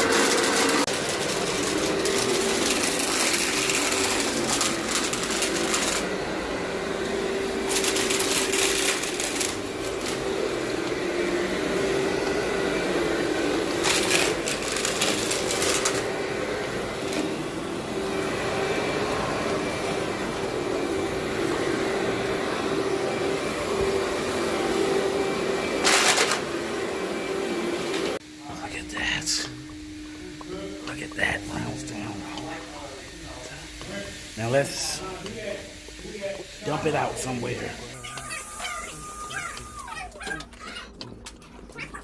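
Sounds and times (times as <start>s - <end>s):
vacuum cleaner running: 0.0s - 40.6s.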